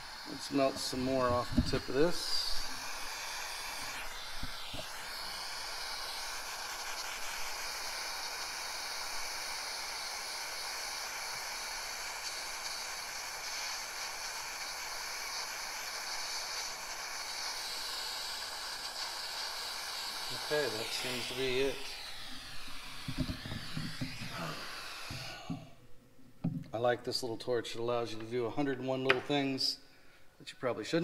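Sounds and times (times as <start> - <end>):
torch flame hissing: 0.0 - 25.8.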